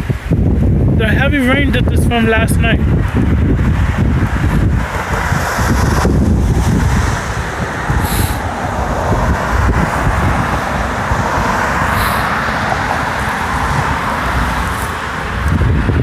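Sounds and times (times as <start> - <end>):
road traffic passing: 0.0 - 16.0
vehicle tyre noise: 0.0 - 16.0
wind rumbling on microphone: 0.0 - 16.0.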